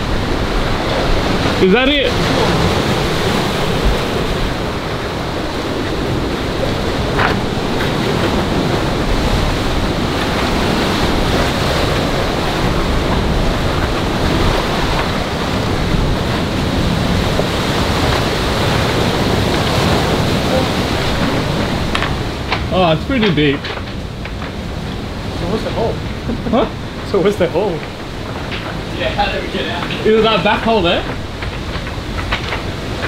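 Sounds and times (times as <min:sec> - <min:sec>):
surf washing over boulders: 0:00.0 - 0:33.0
wind buffeting microphone: 0:00.0 - 0:33.0.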